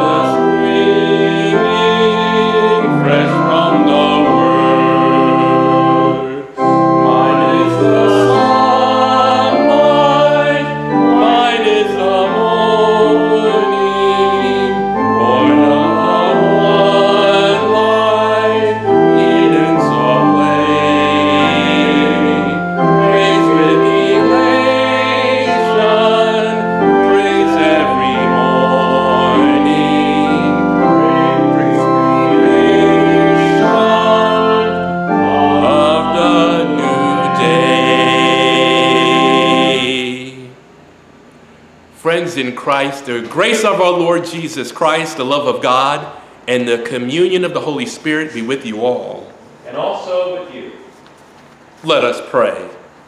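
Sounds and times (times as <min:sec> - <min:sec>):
person singing a hymn: 0:00.0 - 0:40.6, 0:42.1 - 0:49.3
organ chords: 0:00.0 - 0:53.0.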